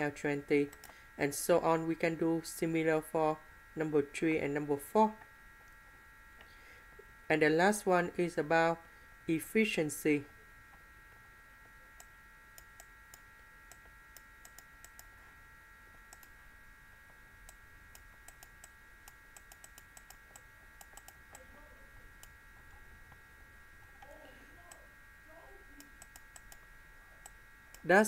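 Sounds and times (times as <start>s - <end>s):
high electrical whine: 0.0s - 28.0s.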